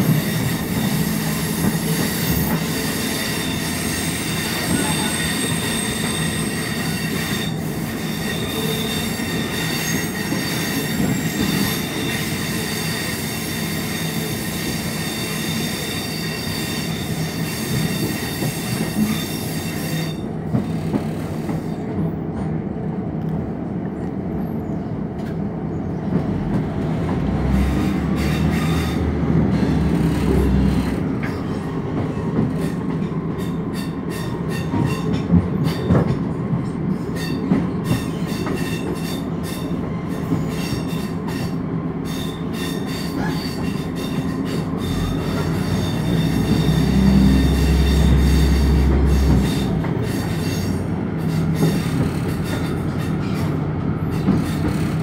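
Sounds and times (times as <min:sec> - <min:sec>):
train engine and wheels rumbling: 0:00.0 - 0:55.0.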